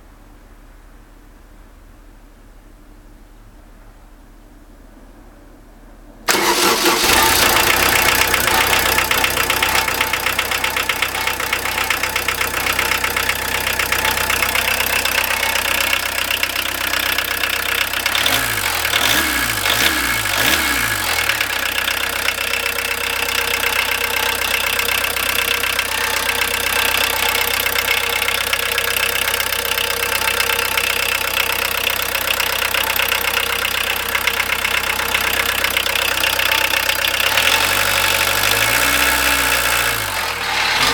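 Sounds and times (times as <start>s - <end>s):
diesel engine knocking: 6.3s - 40.9s.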